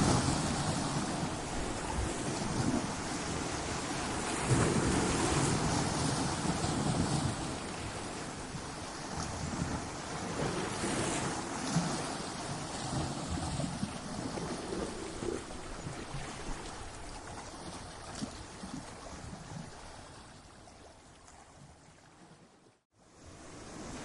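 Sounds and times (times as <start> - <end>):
ocean surf on rocks: 0.0 - 20.1, 23.0 - 24.0.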